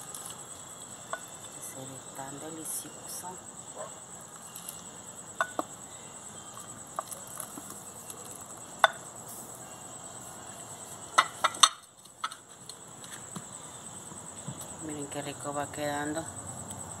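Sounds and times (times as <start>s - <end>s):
steady high-pitched whine: 0.0s - 17.0s.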